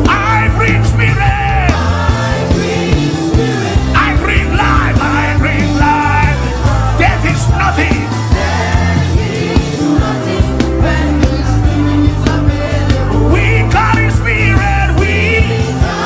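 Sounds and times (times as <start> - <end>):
worship music with low bass notes: 0.0 - 16.0.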